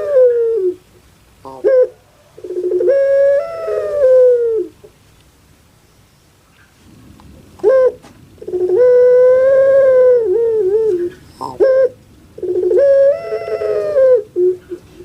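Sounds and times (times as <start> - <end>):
dove cooing: 0.0 - 5.0, 6.6 - 15.0.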